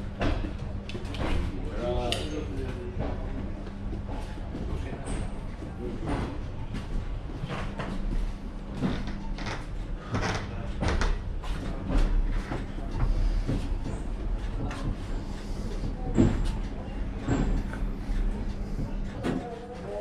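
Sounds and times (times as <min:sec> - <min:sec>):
low hum and rumble: 0:00.0 - 0:20.0
train carriage rattling and knocking: 0:00.0 - 0:20.0.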